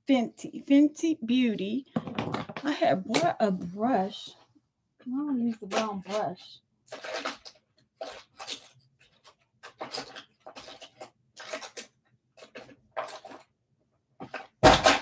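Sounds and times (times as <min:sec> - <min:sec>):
makeup items rustling and clattering: 0:01.4 - 0:04.4, 0:05.0 - 0:13.6, 0:14.2 - 0:15.0.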